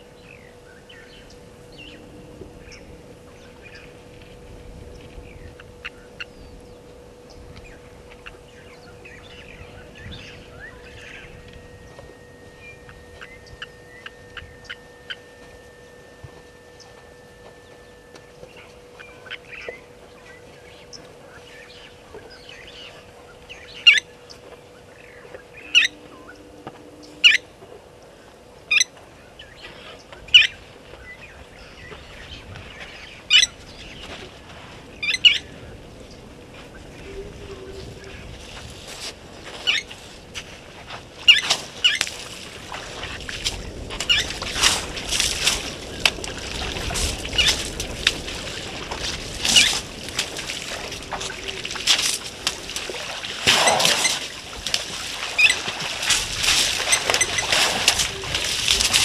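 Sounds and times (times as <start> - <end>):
birds calling and chirping: 0.0 - 38.7, 39.5 - 40.3, 41.2 - 59.0.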